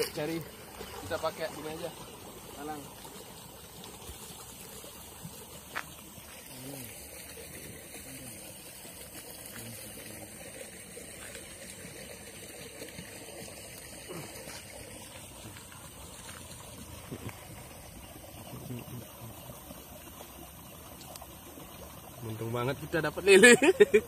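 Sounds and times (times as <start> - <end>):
water trickling: 0.0 - 24.0.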